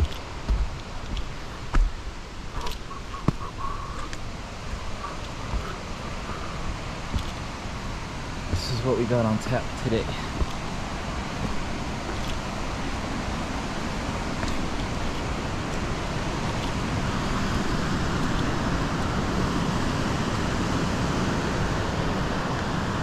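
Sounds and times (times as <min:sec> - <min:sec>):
river water rushing over rapids: 0:00.0 - 0:23.0.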